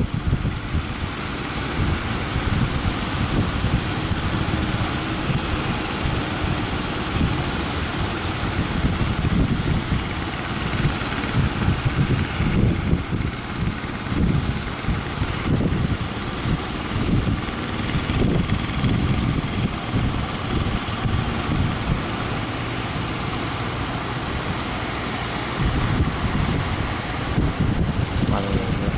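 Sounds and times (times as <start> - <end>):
surf rushing: 0.0 - 28.9
wind buffeting microphone: 0.0 - 28.9.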